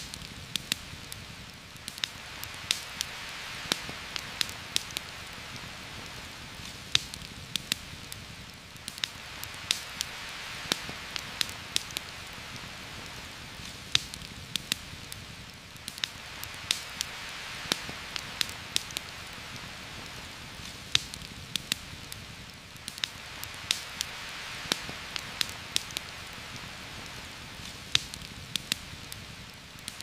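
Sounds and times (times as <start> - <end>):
campfire crackling: 0.0 - 30.0
heavy rain falling: 0.0 - 30.0.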